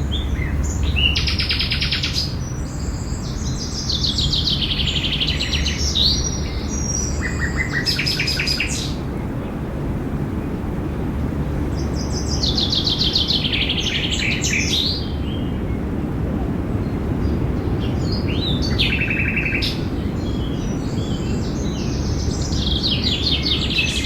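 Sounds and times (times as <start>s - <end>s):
low background rumble: 0.0s - 24.0s
songbirds singing: 0.0s - 24.0s.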